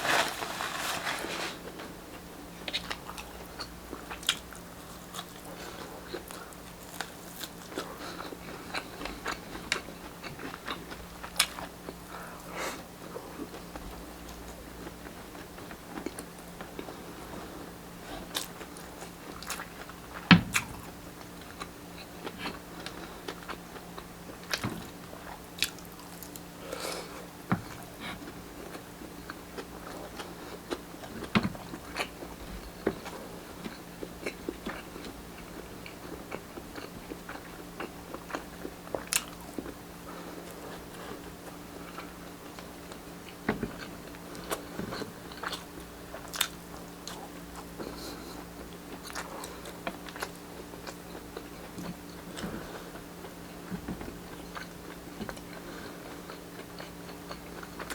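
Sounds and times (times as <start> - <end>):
chewing and biting food: 2.7 - 12.3, 18.2 - 57.9.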